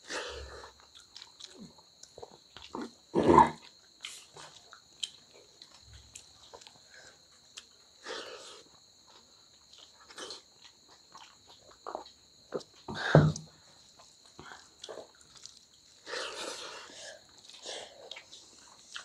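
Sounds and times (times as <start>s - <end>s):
chewing and mouth smacks: 0.7s - 3.0s, 3.6s - 8.0s, 8.6s - 12.9s, 13.8s - 19.0s.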